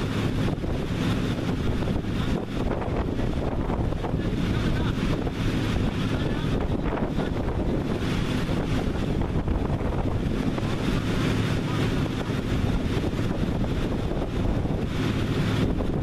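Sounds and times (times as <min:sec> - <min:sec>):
vehicle engine running steadily: 0:00.0 - 0:16.0
wind rumbling on microphone: 0:00.0 - 0:16.0.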